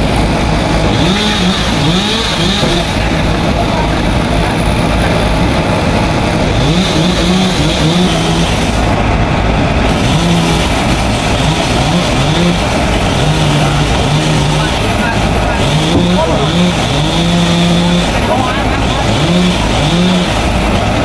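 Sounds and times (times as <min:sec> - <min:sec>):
chainsaw cutting wood: 0:00.0 - 0:03.6, 0:06.4 - 0:08.9, 0:09.8 - 0:21.0.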